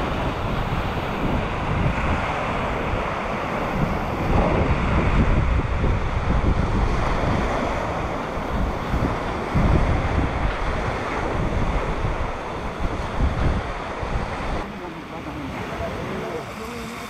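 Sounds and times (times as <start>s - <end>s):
sea waves on shore: 0.0s - 17.0s
wind buffeting microphone: 0.0s - 17.0s.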